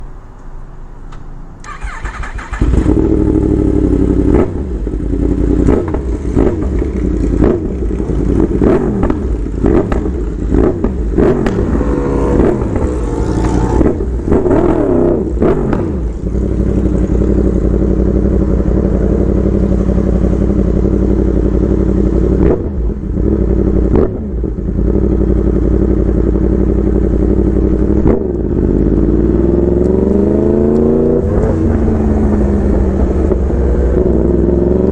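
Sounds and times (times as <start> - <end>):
motorcycle engine revving: 1.6 - 34.9.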